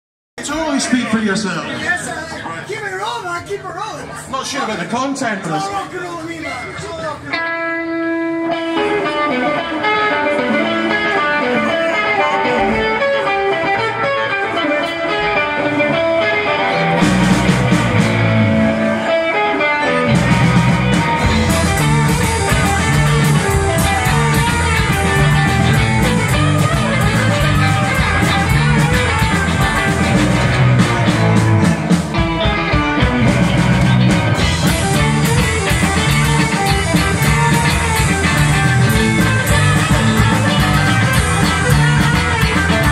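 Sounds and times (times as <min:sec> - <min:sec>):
drums: 0:00.4 - 0:42.9
bass guitar: 0:07.2 - 0:42.9
electric guitars: 0:07.2 - 0:42.9.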